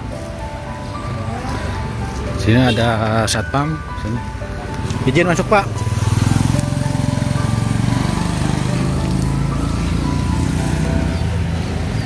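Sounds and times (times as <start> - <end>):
scooter engine passing by: 0.2 - 2.9, 3.5 - 12.0.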